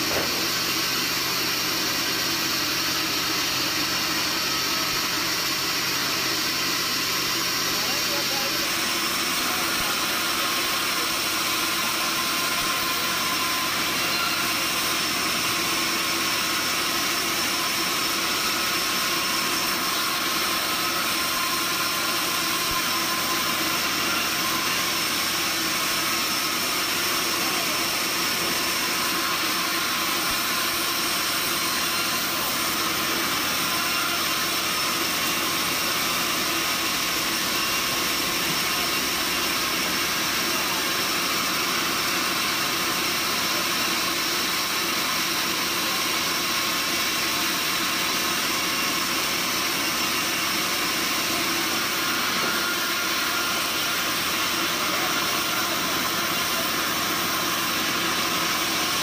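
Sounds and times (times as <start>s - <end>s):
band saw machinery humming: 0.0s - 59.0s.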